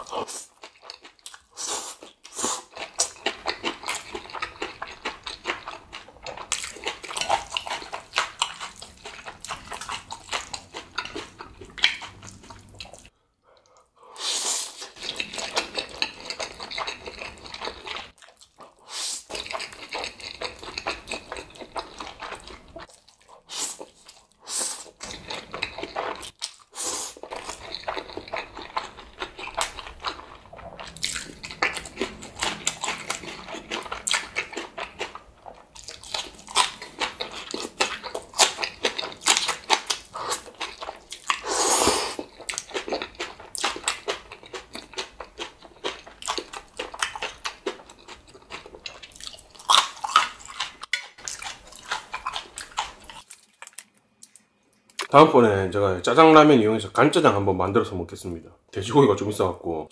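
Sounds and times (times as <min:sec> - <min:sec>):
chewing noodles and kimchi: 0:00.0 - 0:55.2.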